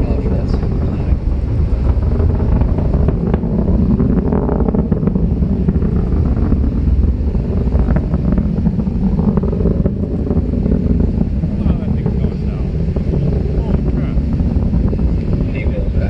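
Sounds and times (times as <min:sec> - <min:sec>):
rocket engines rumbling and crackling: 0:00.0 - 0:16.0.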